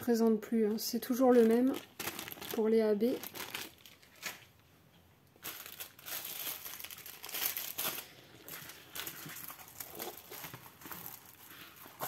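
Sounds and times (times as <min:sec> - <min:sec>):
plastic film crinkling: 0:01.0 - 0:04.6, 0:05.4 - 0:12.0.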